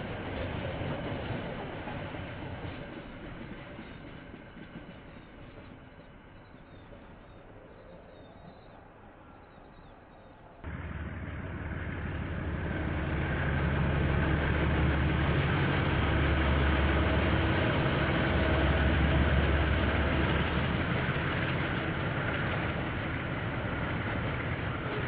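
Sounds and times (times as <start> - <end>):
diesel locomotive engine drone: 0.0 - 25.0
train wheels rumbling on rails: 0.0 - 25.0.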